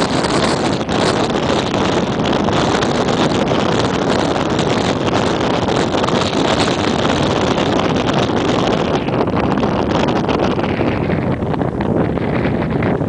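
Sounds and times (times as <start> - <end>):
cable car rushing and rumbling: 0.0 - 13.0
wind on microphone: 0.0 - 13.0.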